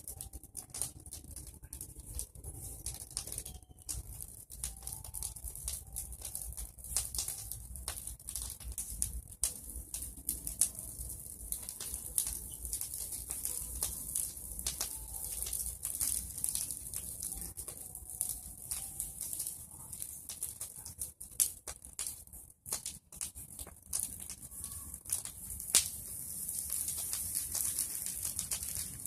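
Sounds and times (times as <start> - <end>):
bonfire crackling and popping: 0.0 - 29.0
fire hiss: 4.0 - 29.0.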